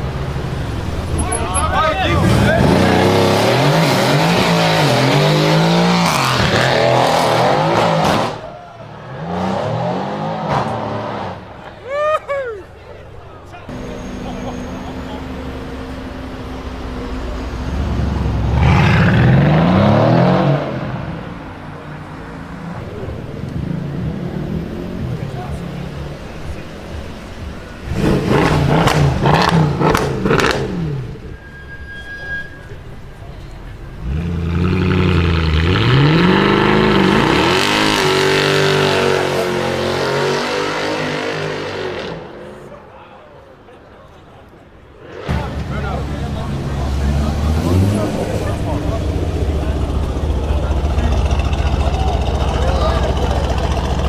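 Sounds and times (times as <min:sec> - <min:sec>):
car engine accelerating: 0:00.0 - 0:11.8, 0:12.8 - 0:31.6, 0:32.6 - 0:42.8, 0:45.1 - 0:54.0.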